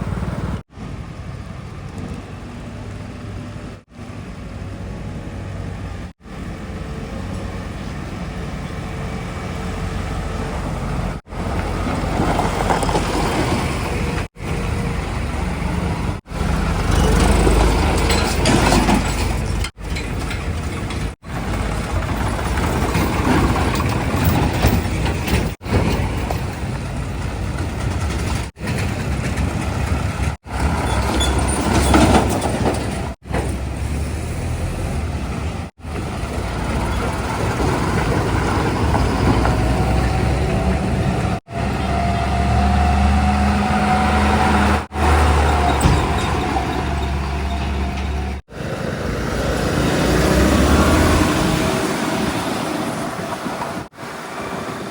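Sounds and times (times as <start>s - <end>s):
heavy diesel engines working: 0.0s - 54.9s.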